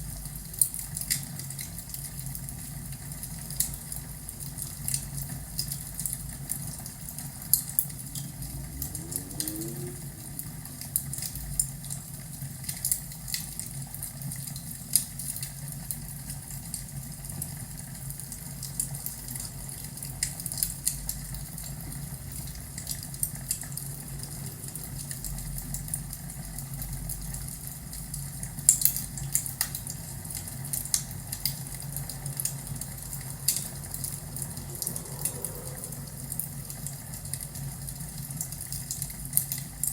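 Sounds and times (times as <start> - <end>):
low steady fire hum: 0.0 - 39.9.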